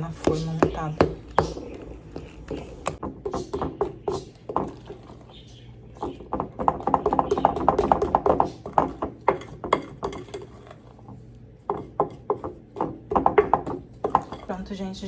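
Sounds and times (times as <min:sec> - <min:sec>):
spoon tapping and scraping pan: 0:00.0 - 0:14.6.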